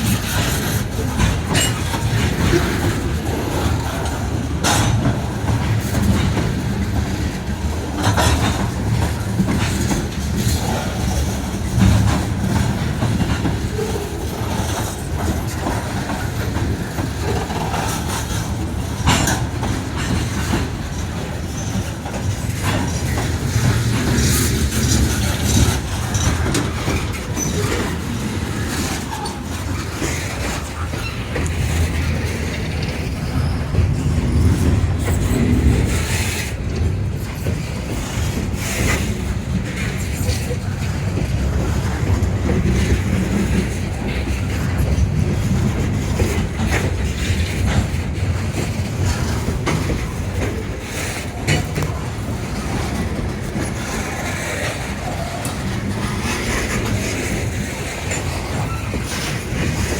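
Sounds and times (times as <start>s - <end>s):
train rumbling past: 0.0s - 59.9s
wheels clicking over rail joints: 0.0s - 59.9s.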